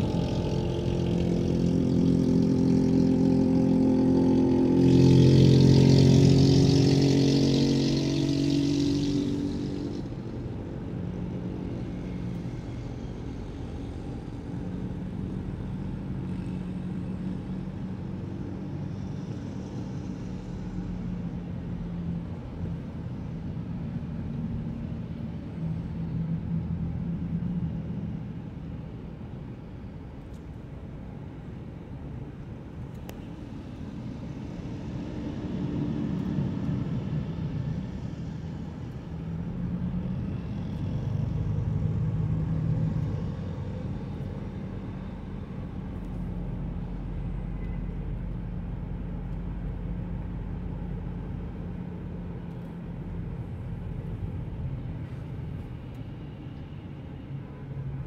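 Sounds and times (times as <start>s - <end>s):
engine with rushing hiss: 0.0s - 58.0s
road traffic: 0.0s - 58.0s.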